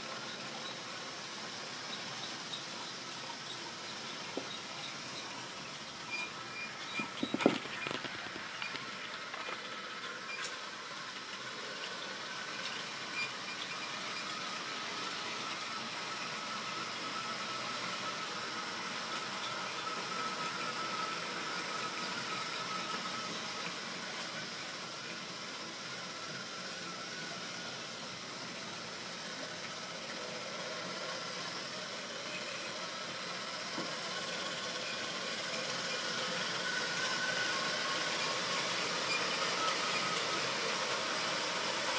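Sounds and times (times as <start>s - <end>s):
wheels hissing on rails: 0.0s - 41.9s
small electric motor whine: 1.8s - 41.9s.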